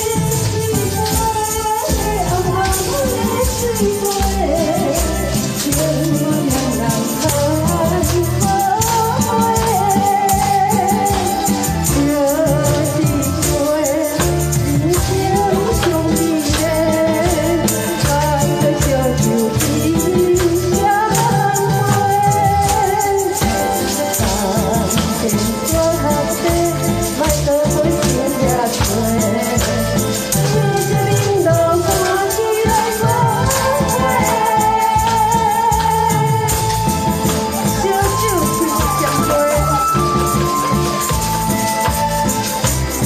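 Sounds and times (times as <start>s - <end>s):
tambourine shaken: 0.0s - 43.0s
woman singing over backing track: 0.0s - 43.0s.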